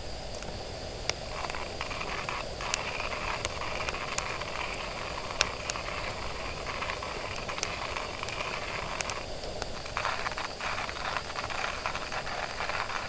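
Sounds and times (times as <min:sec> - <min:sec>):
fire crackling and popping: 0:00.0 - 0:13.0
wood fire hissing: 0:00.0 - 0:13.0.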